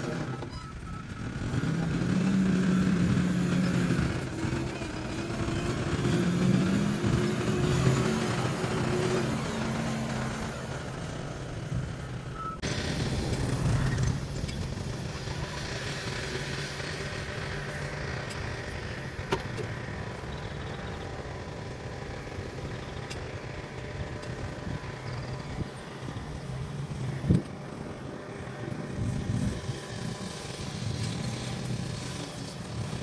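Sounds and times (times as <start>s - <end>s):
heavy machinery engine running: 0.0s - 33.0s.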